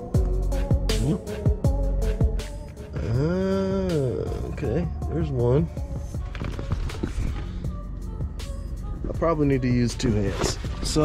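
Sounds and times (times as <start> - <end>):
hip hop beat: 0.0 - 11.0.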